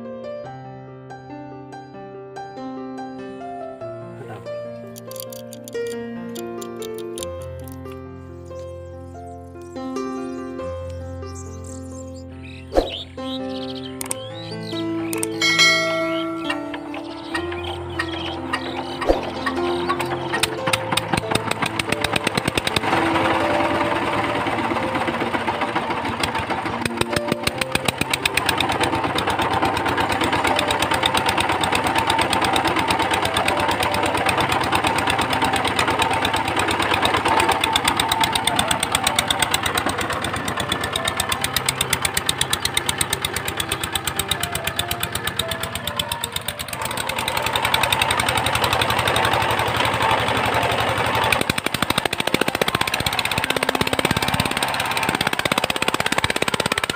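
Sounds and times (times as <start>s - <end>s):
diesel engine chugging: 10.3s - 56.9s.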